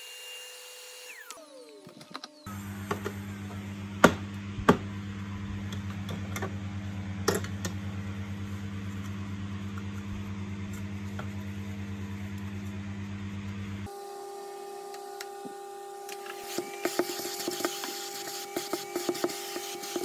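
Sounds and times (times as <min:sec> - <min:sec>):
steady low hum: 0:02.5 - 0:20.0.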